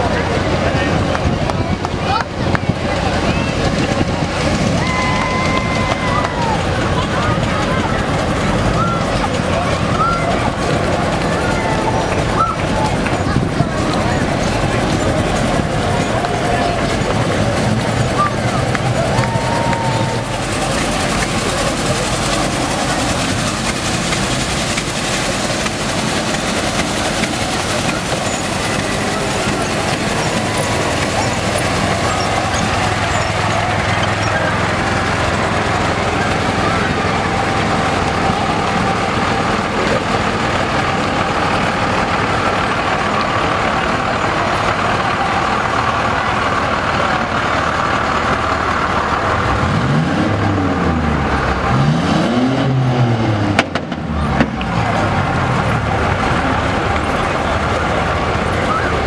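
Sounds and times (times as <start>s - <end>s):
trucks rolling past: 0.0s - 59.0s.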